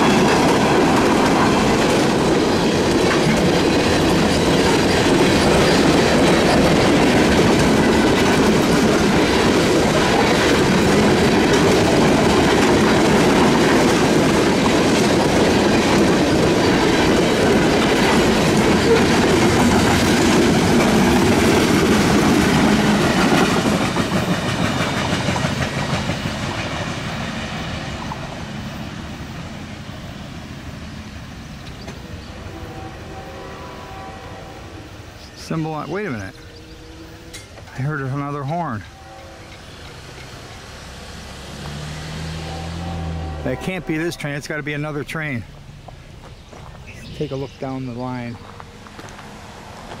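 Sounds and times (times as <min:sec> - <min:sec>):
freight train wheels on rails: 0:00.0 - 0:50.0.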